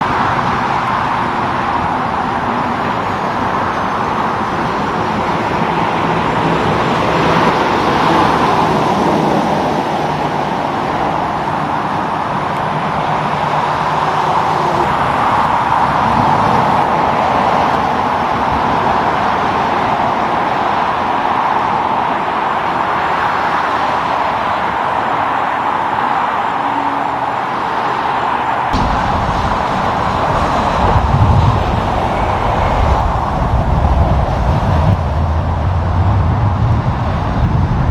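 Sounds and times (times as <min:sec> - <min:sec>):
highway traffic passing: 0:00.0 - 0:37.9.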